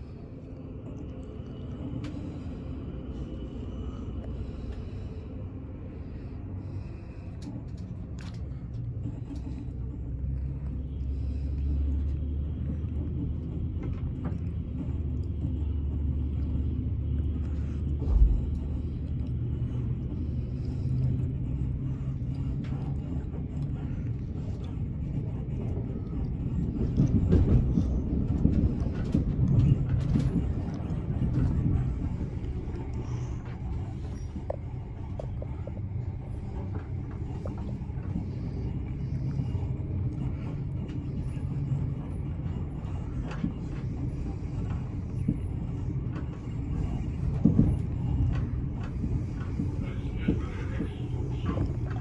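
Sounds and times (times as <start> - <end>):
train carriage rumble: 0.0 - 52.0.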